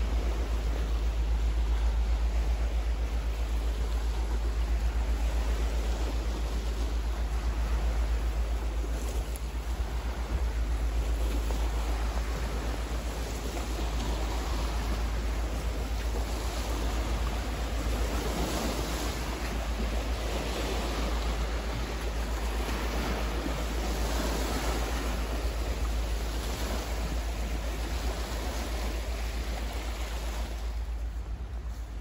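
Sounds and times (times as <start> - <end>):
steady low rumble: 0.0 - 32.0
waves lapping against rocky bank: 0.0 - 32.0.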